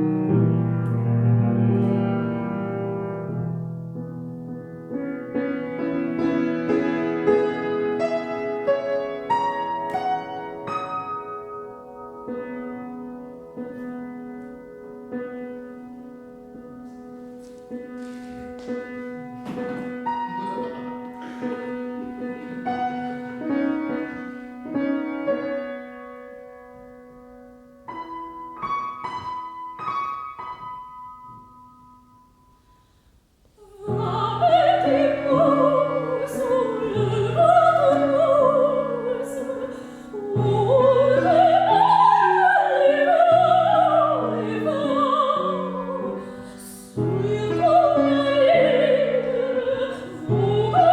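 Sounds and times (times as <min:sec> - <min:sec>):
piano playing: 0:00.0 - 0:50.9.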